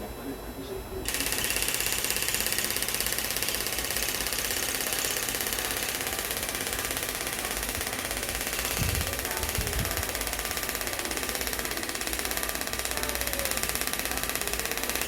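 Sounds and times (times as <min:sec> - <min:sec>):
tattoo machine needle buzzing: 0:01.0 - 0:15.0.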